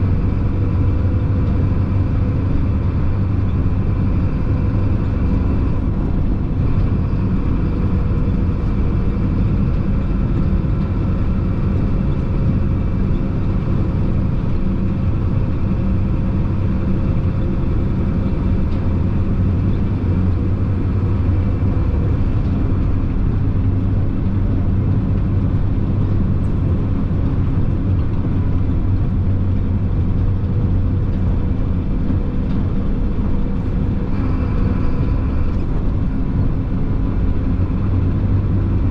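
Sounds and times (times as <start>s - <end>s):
diesel truck engine drone: 0.0s - 38.9s
road noise: 0.0s - 38.9s.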